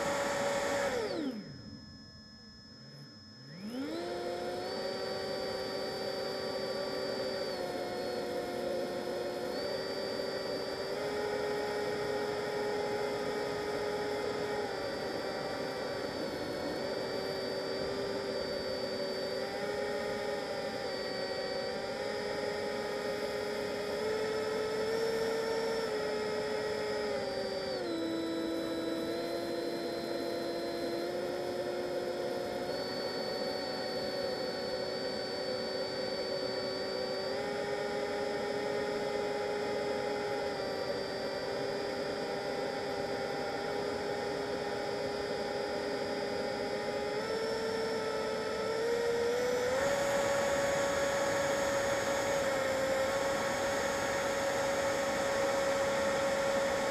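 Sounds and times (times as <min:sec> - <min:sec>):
electric ducted fans whining: 0:00.0 - 0:56.9.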